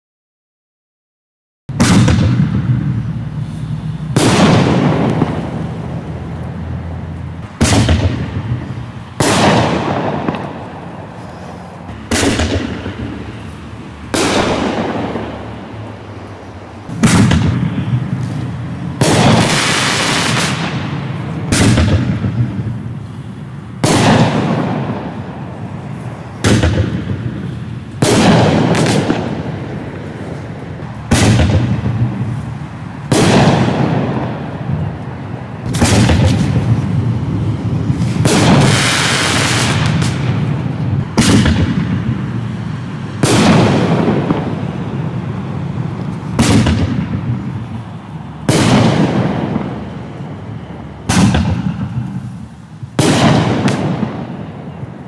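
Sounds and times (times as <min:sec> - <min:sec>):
firework shells banging: 0:01.7 - 0:06.6, 0:07.3 - 0:54.8
firework hiss: 0:01.8 - 0:55.0.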